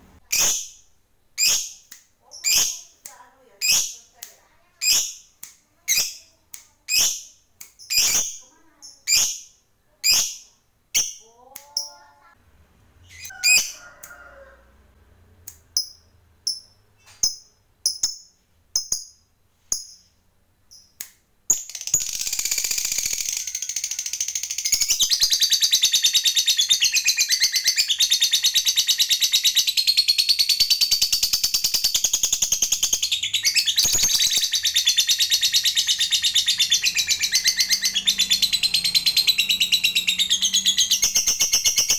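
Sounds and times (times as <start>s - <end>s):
lovebird chirping and trilling: 0.2s - 4.2s, 4.8s - 12.3s, 13.0s - 14.2s, 15.7s - 41.9s.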